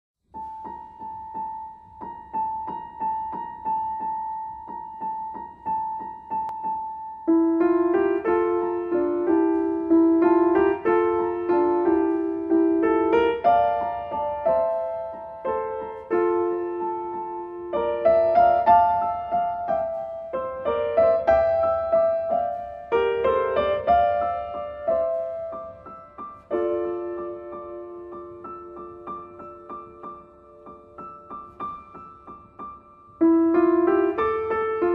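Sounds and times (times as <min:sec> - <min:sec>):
piano music: 0:00.3 - 0:34.9.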